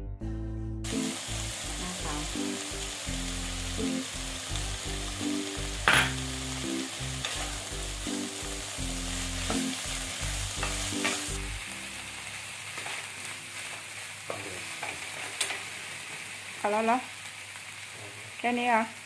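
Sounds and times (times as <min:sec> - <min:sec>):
food sizzling in a hot pan: 0:00.8 - 0:19.0.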